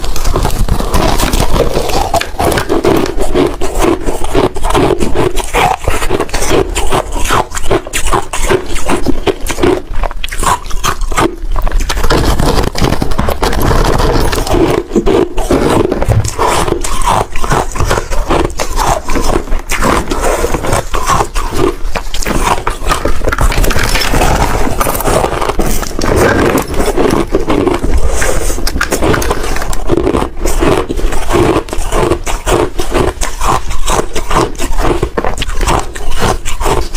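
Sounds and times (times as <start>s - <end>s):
shaved ice being chewed: 0.0s - 36.9s.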